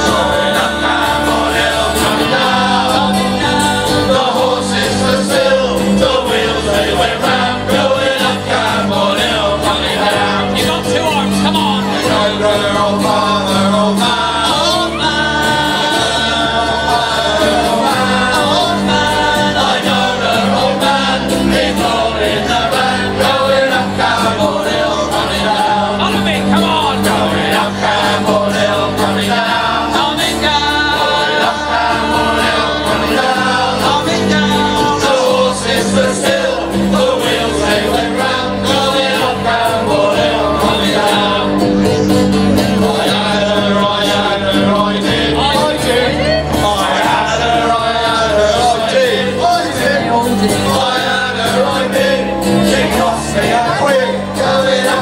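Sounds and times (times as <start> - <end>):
acoustic guitars: 0.0 - 55.0
bass line: 0.0 - 55.0
men and women singing in chorus: 0.0 - 55.0.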